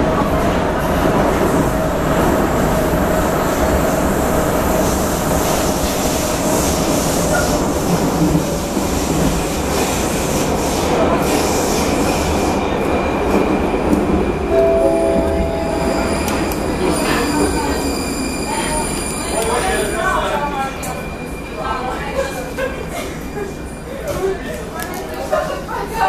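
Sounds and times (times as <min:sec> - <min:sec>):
train rumbling through tunnel: 0:00.0 - 0:26.0.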